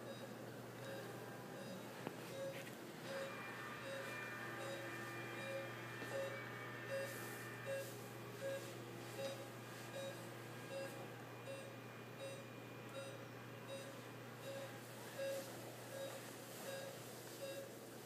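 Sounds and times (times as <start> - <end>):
patient monitor beeping: 0.0 - 17.8.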